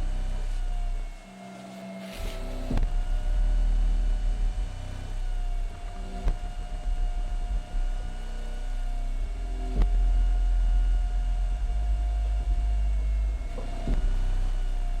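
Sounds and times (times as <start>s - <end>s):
subwoofers playing deep bass: 0.0s - 1.3s, 2.0s - 15.0s.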